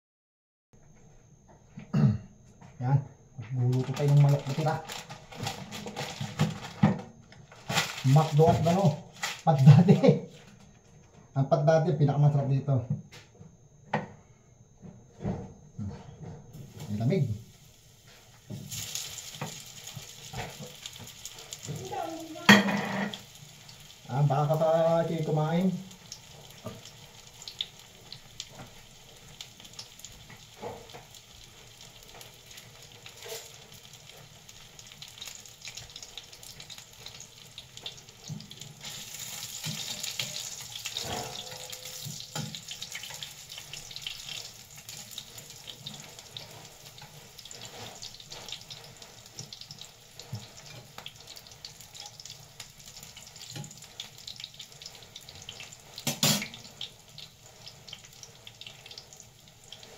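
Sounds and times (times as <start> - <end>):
food sizzling in a pan: 3.6 - 10.6, 16.5 - 59.9.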